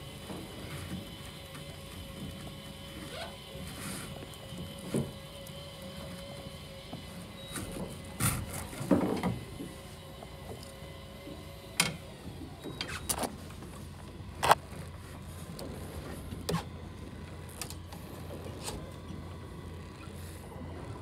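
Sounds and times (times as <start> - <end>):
fishing reel motor whine: 0.0 - 21.0.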